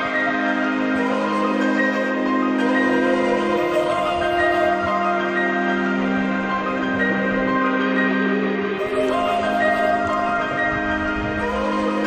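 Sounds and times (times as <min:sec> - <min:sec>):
background music with low chord: 0:00.0 - 0:12.0.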